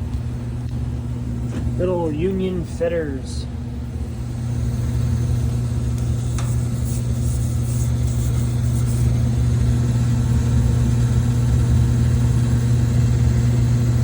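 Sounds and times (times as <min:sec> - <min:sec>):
furnace blower motor humming: 0:00.0 - 0:14.0.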